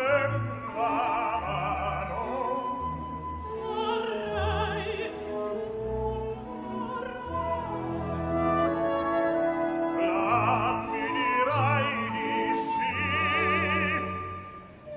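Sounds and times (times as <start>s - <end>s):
operatic duet singing: 0.0s - 8.4s, 9.7s - 14.2s
orchestral accompaniment: 0.0s - 14.9s.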